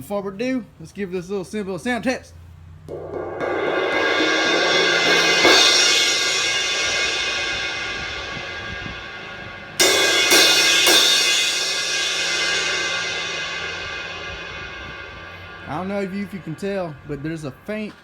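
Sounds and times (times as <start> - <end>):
faint humming from cymbal: 2.7 - 18.0
crash cymbal struck and ringing: 2.9 - 17.9.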